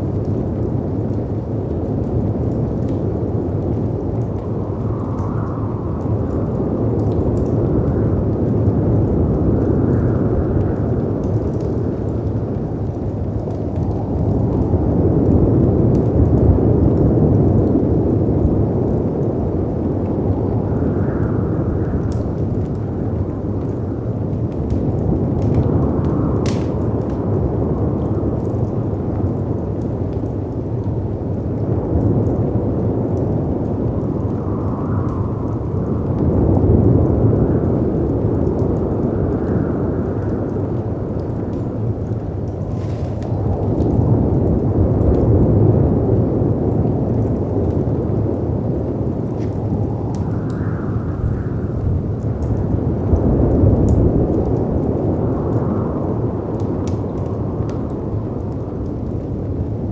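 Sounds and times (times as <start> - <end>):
faint fireplace crackles: 0.0 - 59.9
wind roaring: 0.0 - 59.9.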